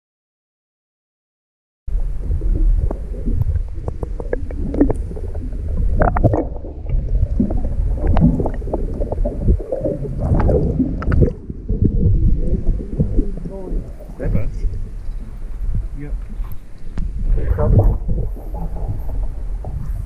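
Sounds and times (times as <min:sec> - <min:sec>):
underwater crackles and clicks: 0:01.9 - 0:20.0
underwater water rumble: 0:01.9 - 0:20.0.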